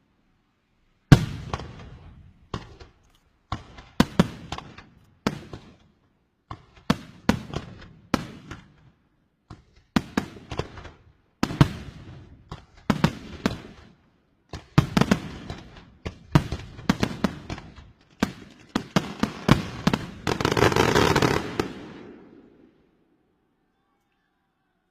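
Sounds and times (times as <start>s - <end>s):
dense fireworks crackle: 1.0s - 23.2s
fireworks bangs: 1.1s - 23.0s.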